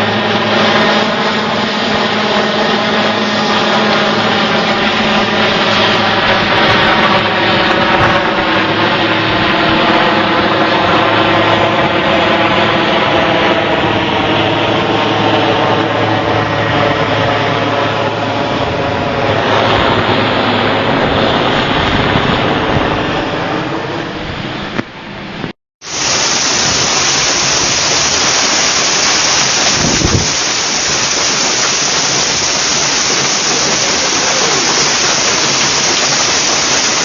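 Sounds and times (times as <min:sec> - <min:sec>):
aircraft engine drone: 0:00.0 - 0:37.0.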